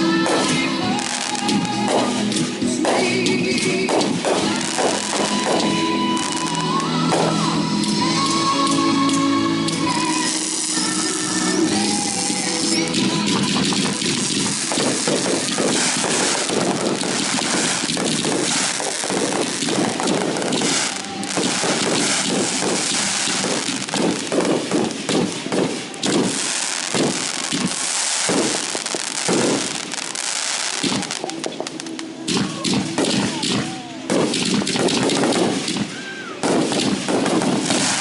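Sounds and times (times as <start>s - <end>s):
fireworks crackling and banging: 0.0s - 38.0s.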